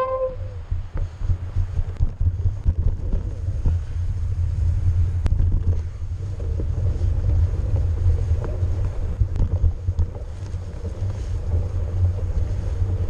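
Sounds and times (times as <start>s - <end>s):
bike tyre and frame noise: 0.0s - 13.0s
wind buffeting microphone: 0.0s - 13.0s.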